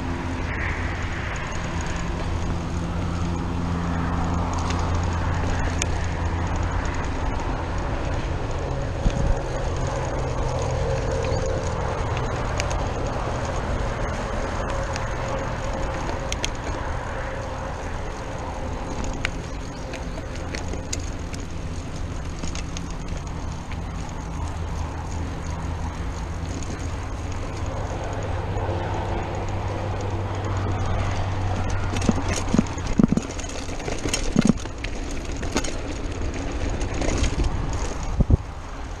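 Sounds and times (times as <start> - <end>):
bike clicks and rattles: 0.0 - 39.0
bike tyre rumble: 0.0 - 39.0.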